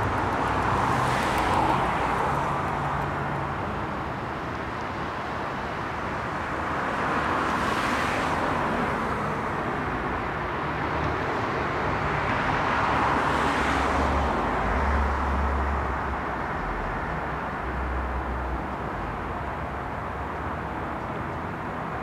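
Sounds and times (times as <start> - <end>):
road traffic noise: 0.0 - 22.0
vehicles passing: 0.0 - 22.0.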